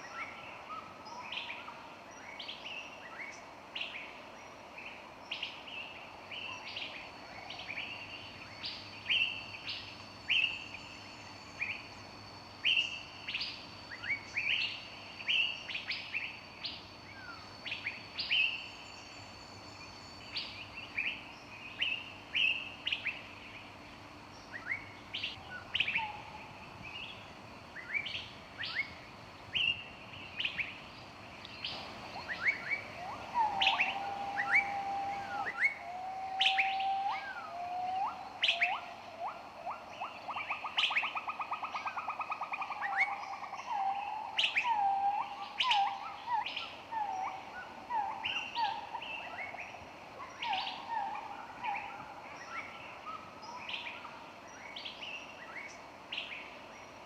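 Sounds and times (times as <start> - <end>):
faint steady hiss: 0.0 - 57.0
songbirds chirping: 0.0 - 57.0.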